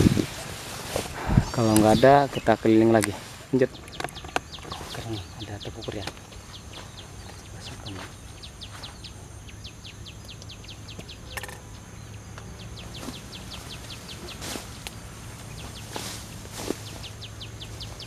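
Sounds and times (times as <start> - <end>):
faint insect drone: 0.0 - 18.0
bird chirping: 1.3 - 18.0.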